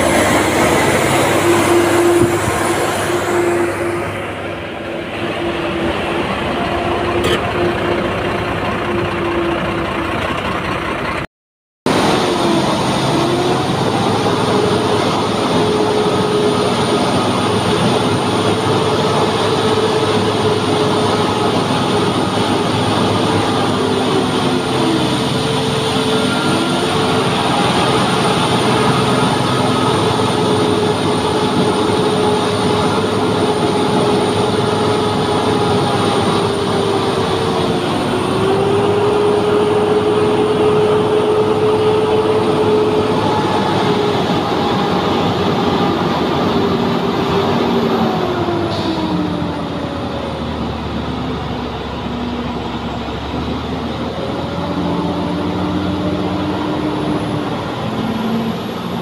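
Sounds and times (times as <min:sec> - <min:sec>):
diesel truck engine running: 0:00.0 - 0:11.3, 0:11.9 - 0:59.0.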